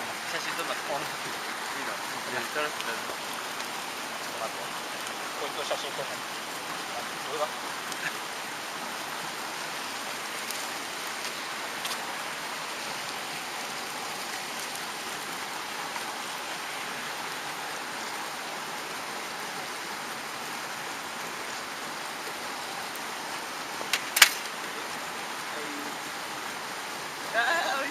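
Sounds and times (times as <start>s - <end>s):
mountain stream rushing: 0.0s - 27.9s.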